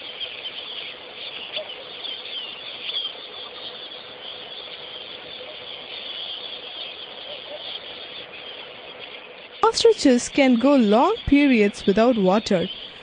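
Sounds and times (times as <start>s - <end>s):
faint steady hum: 0.0s - 13.0s
small birds chirping: 0.0s - 13.0s.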